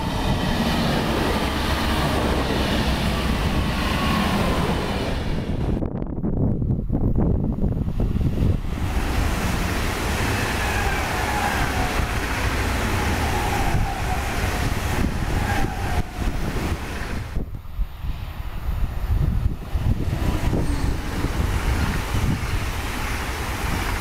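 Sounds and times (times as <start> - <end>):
train whine: 0.0 - 6.1, 7.2 - 24.0
train passing rumble: 0.0 - 24.0
wind on microphone: 0.0 - 24.0.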